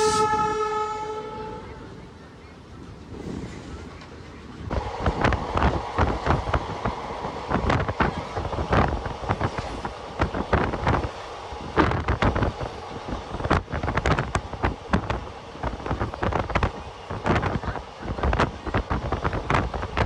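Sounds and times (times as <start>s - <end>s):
wind buffeting microphone: 2.8s - 20.0s.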